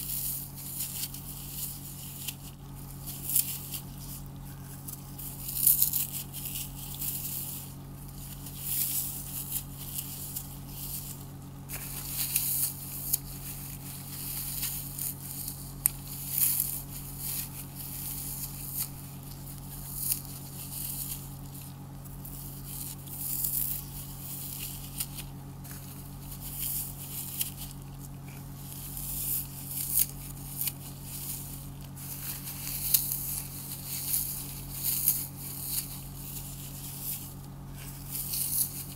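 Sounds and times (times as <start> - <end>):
floral foam crunching and crackling: 0.0 - 38.9.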